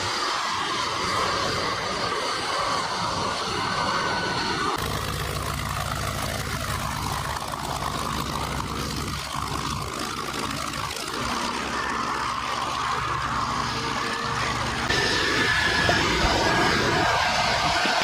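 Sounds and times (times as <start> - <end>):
jet engine noise: 0.0 - 18.0
low hum: 0.0 - 18.0.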